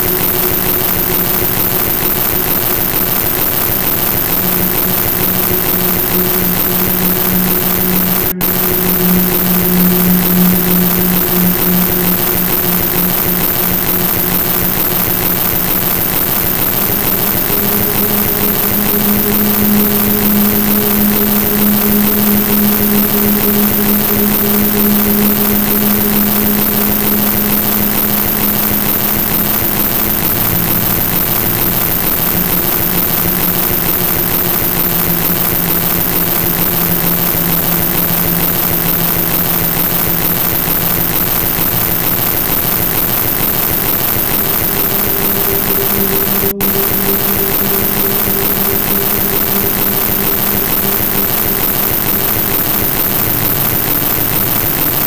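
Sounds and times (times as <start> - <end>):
electronic hiss: 0.0 - 55.0
low electronic hum: 0.0 - 55.0.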